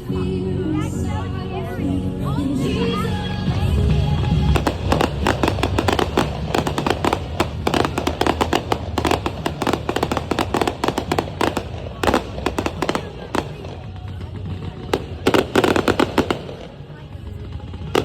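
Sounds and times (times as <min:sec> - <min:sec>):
fireworks bangs and crackles: 0:03.5 - 0:18.0.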